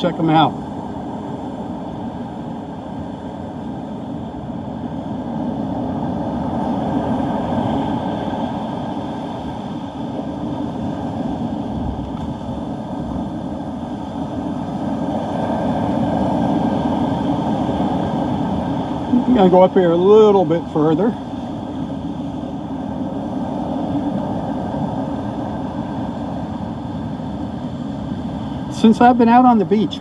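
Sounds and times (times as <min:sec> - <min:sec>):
rough surf: 0:00.0 - 0:30.0
gusty wind on microphone: 0:00.1 - 0:30.0.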